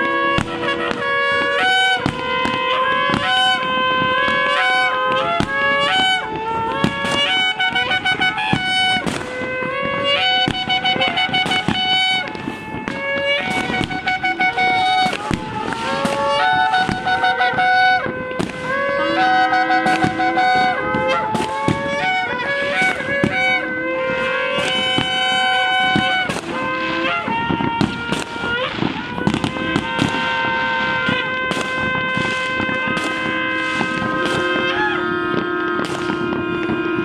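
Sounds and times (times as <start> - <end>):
fireworks banging and crackling: 0.0 - 37.0
shofar blasts: 0.0 - 37.0.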